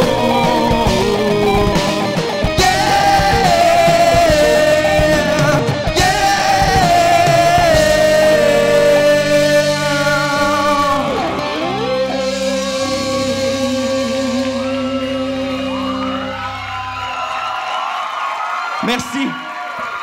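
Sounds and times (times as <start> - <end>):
bass guitar: 0.0 - 17.1
electric guitars: 0.0 - 17.3
drums: 0.0 - 17.8.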